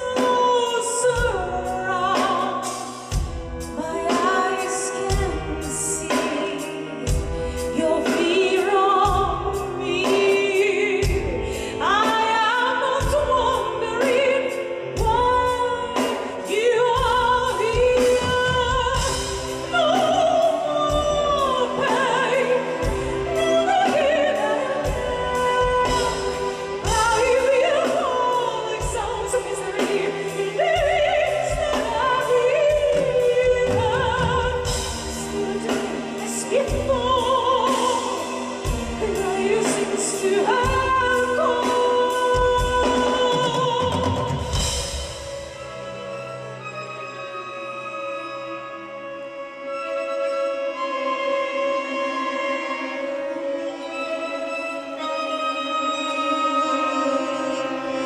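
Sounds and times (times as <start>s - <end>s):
soprano singing: 0.0s - 58.0s
symphony orchestra: 0.0s - 58.0s.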